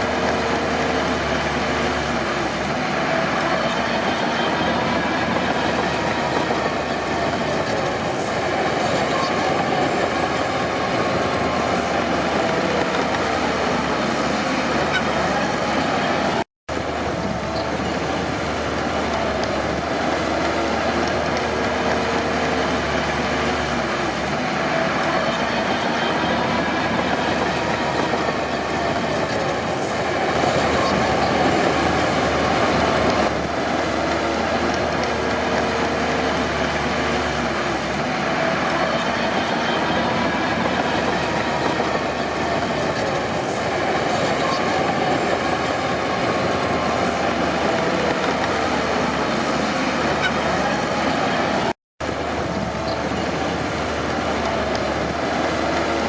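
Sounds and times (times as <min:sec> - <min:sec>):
steel tracks grinding and squealing: 0:00.0 - 0:51.8
bulldozer diesel engine running: 0:00.0 - 0:56.0.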